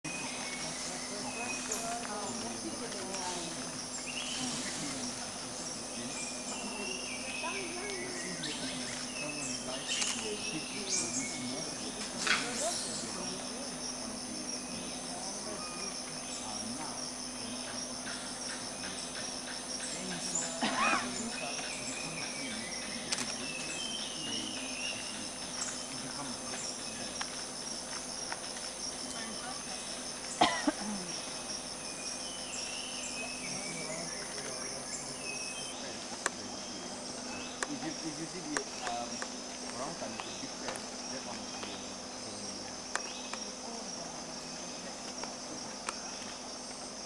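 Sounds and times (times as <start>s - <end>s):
crickets and cicadas shrilling: 0.0s - 47.0s
insect chorus drone: 0.0s - 47.0s
low steady hum: 0.0s - 47.0s
pulsing insect chirp: 0.0s - 47.0s.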